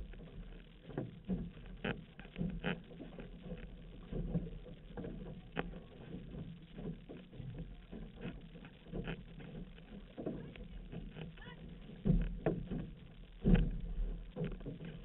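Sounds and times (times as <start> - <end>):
paddles splashing water: 0.0 - 15.0.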